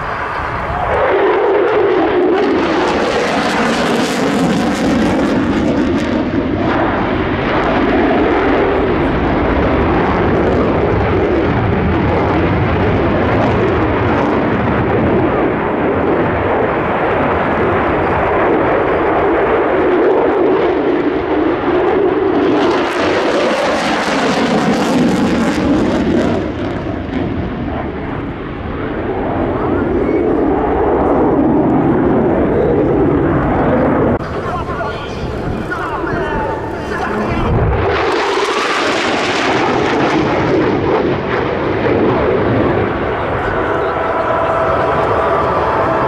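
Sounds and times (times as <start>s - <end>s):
fighter jet engine roar: 0.0s - 46.0s.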